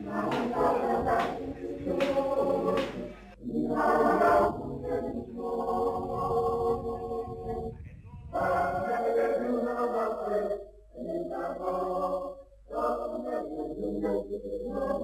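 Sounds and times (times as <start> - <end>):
choir singing in harmony: 0.0 - 7.6, 8.3 - 15.0.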